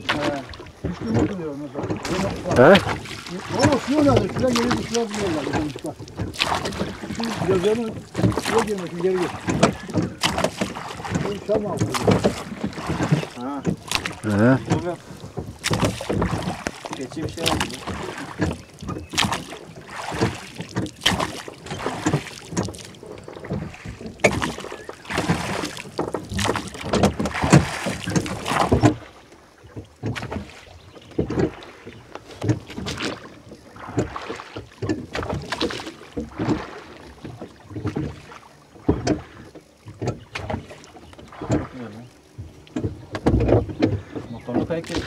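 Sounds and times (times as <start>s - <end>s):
oars splashing and knocking: 0.0s - 45.0s.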